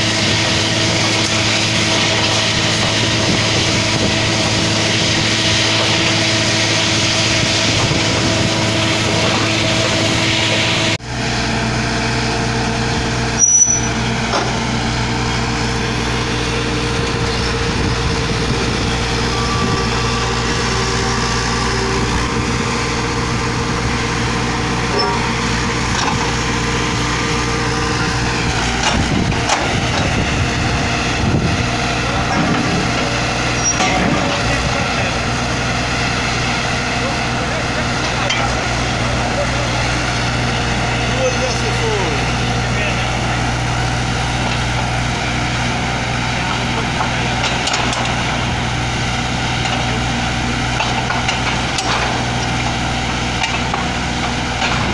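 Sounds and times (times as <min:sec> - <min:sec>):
drilling rig engine droning: 0:00.0 - 0:54.9.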